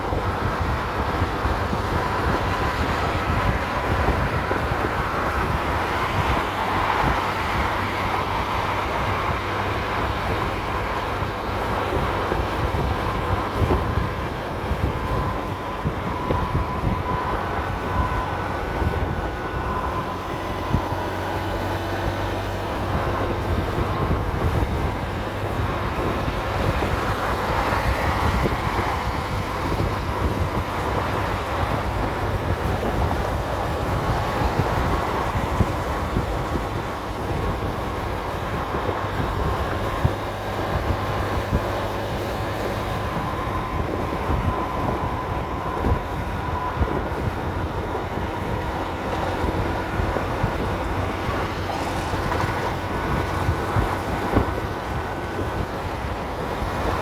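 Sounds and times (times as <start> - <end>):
road and wind noise: 0.0 - 57.0
scooter engine running: 0.0 - 57.0.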